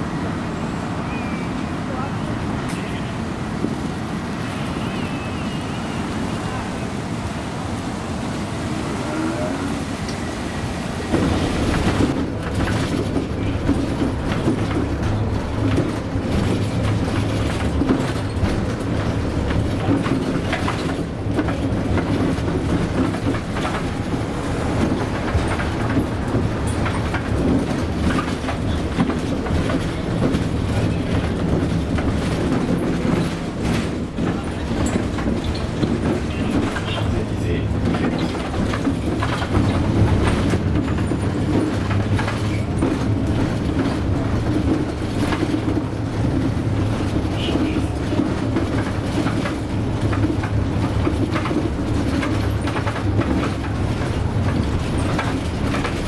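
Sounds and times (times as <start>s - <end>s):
bus engine droning: 0.0s - 56.0s
bus body rattling and knocking: 1.9s - 4.4s, 10.2s - 56.0s.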